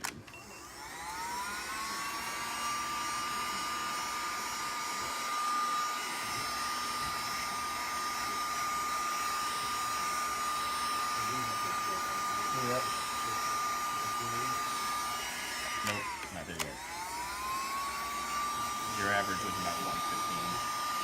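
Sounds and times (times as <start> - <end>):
heat gun motor whine: 0.0 - 21.0.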